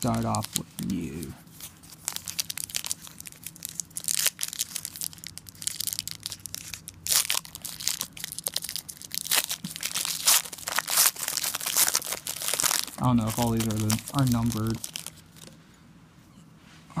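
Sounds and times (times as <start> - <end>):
foil wrapper crinkling and tearing: 0.0 - 15.5.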